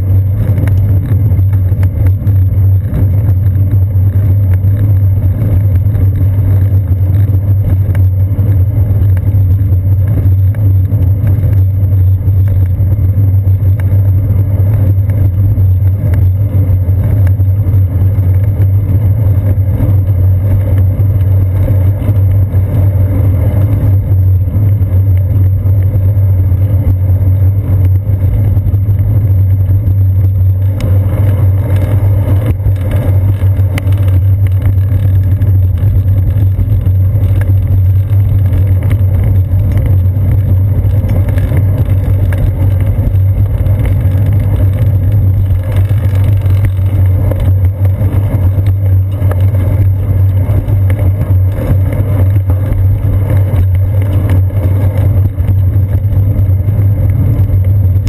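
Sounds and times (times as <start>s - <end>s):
bicycle riding rumble: 0.0s - 58.0s
wind: 0.0s - 58.0s.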